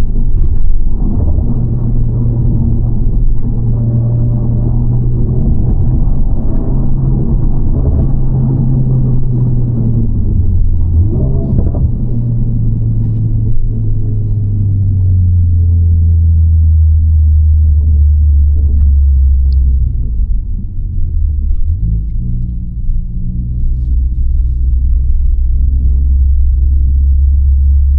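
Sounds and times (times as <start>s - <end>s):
car exhaust drone from inside cabin: 0.0s - 27.9s.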